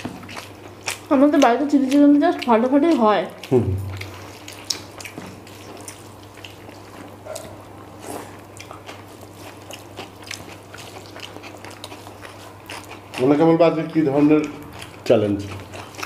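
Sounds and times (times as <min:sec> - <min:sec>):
chewing and mouth smacks: 0:00.0 - 0:16.0.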